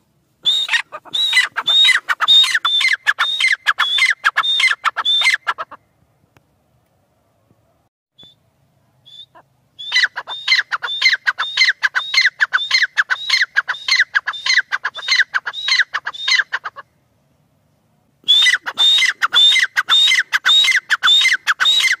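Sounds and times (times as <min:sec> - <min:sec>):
francolin calling: 0:00.4 - 0:05.8, 0:08.2 - 0:17.0, 0:18.2 - 0:22.0.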